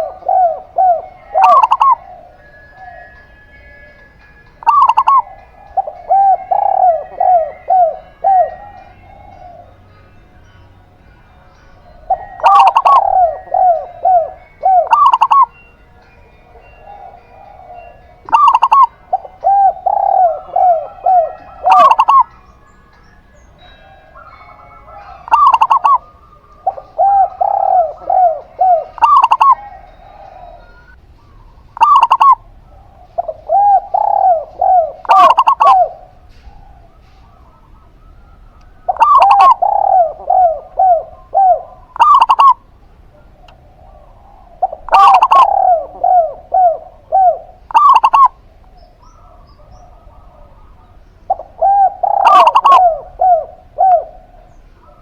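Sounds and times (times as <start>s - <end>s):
faint soft dove cooing: 0.0s - 10.0s, 11.9s - 55.0s
dove singing clipped cooing notes: 0.0s - 55.0s.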